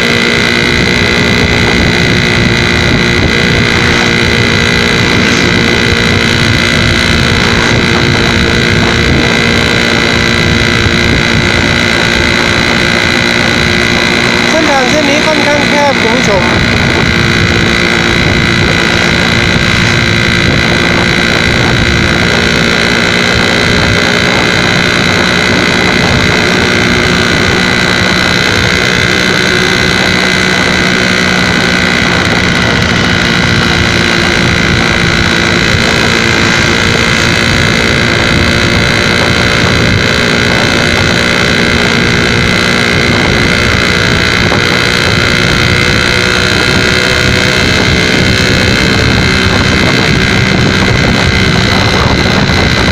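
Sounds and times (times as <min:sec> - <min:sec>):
two-stroke motorcycle engine: 0:00.0 - 0:52.9
wind noise on microphone: 0:00.0 - 0:52.9.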